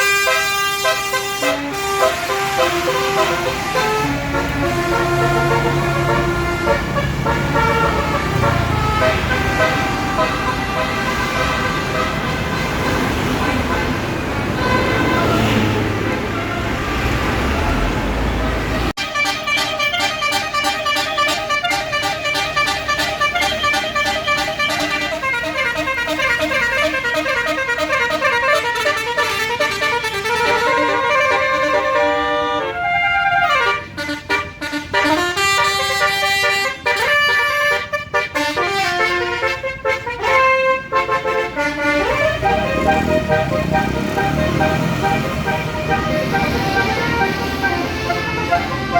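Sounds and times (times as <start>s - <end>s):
multi-tone bus air horn tune: 0.0s - 48.9s
traffic rumble: 0.0s - 48.9s.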